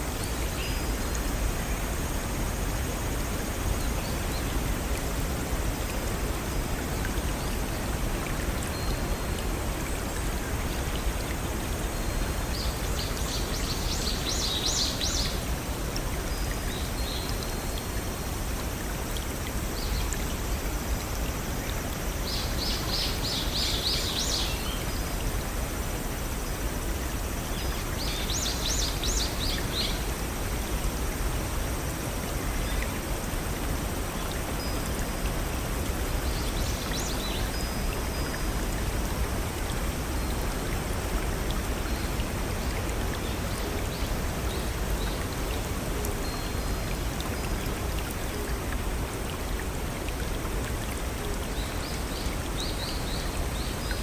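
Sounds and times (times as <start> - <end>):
rushing waterfall: 0.0 - 54.0.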